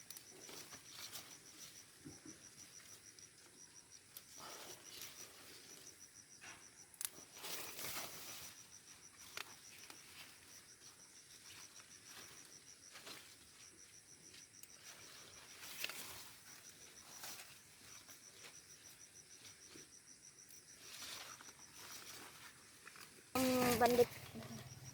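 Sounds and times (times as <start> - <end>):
faint insect chirping: 0.0 - 24.9.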